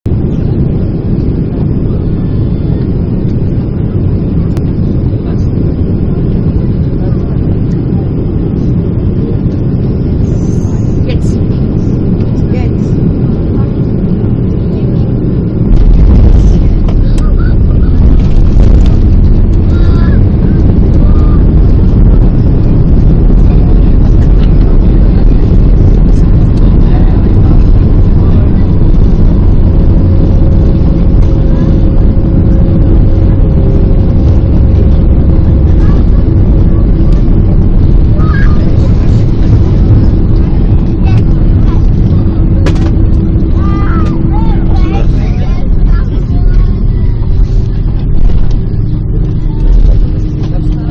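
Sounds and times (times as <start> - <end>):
airliner low rumble: 0.0 - 50.9
rushing air: 0.1 - 50.9.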